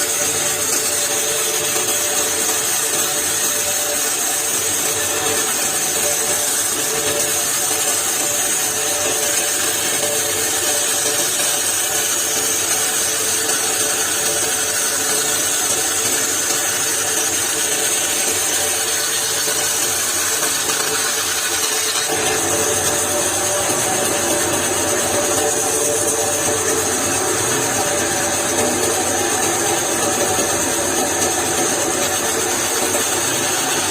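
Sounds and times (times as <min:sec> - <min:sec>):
power tool cutting wood: 0:00.0 - 0:33.9.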